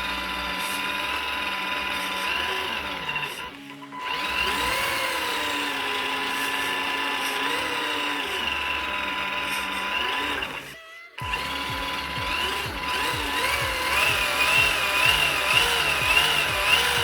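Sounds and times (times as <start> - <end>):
electric motor and gears whining: 0.0 - 17.0.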